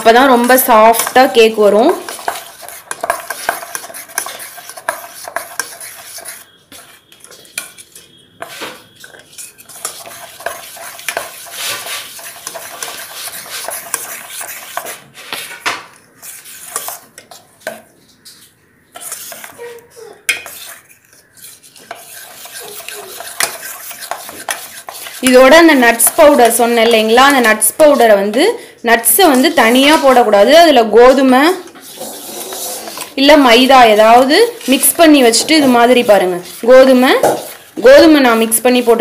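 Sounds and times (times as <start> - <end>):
spoon scraping metal bowl: 0.0 - 15.6, 16.2 - 39.0.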